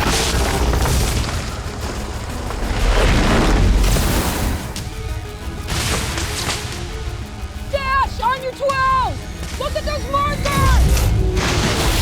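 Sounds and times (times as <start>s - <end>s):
dramatic film music: 0.0s - 12.0s.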